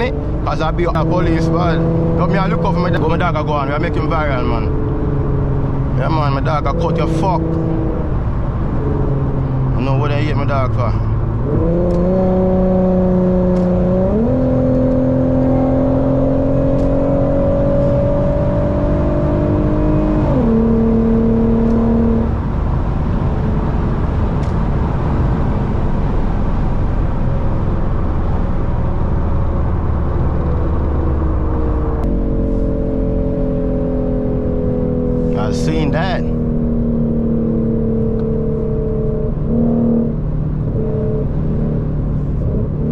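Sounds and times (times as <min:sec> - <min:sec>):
car engine revving: 0:00.0 - 0:42.9
road and tyre noise: 0:00.0 - 0:42.9.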